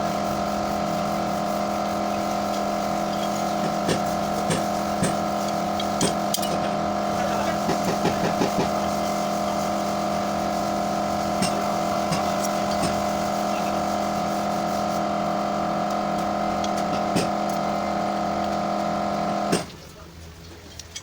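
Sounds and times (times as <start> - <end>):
motor running steadily: 0.0 - 21.0.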